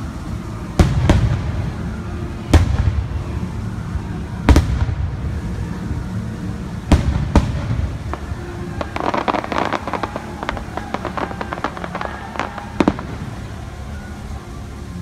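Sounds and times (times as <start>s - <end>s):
fireworks bangs: 0.6s - 14.3s.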